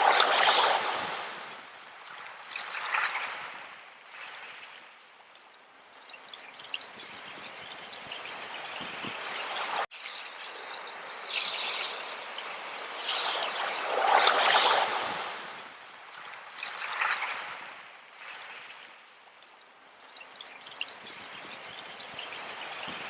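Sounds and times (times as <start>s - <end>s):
sea water washing over shells: 0.0s - 23.0s.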